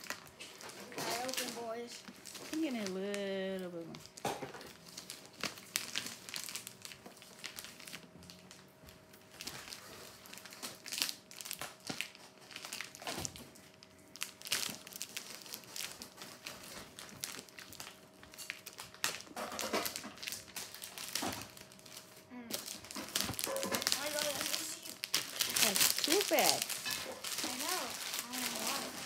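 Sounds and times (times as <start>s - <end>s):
paper wrapping crinkling and tearing: 0.0s - 29.0s.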